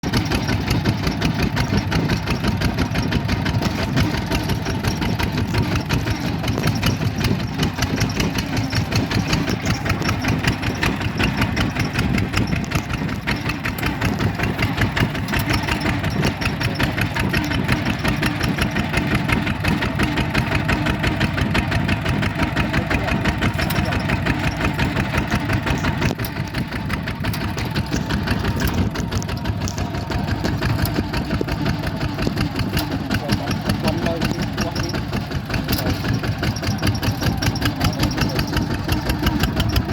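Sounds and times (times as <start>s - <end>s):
bulldozer diesel engine chugging: 0.0s - 39.9s.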